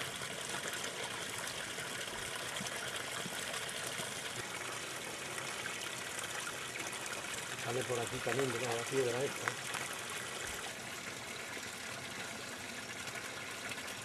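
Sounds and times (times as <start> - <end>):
water rushing down rocky stream: 0.0 - 14.0.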